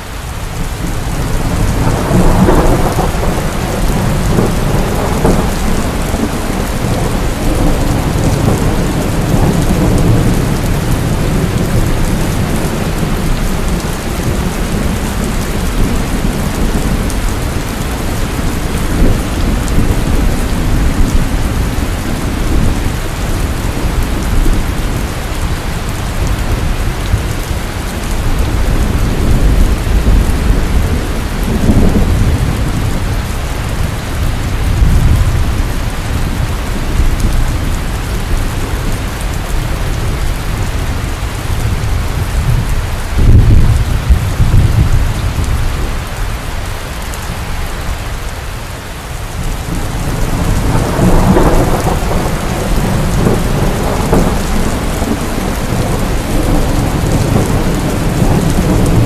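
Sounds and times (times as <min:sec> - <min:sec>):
heavy rain falling: 0:00.0 - 0:59.0
thunder rumbling: 0:00.6 - 0:48.0, 0:49.2 - 0:59.0.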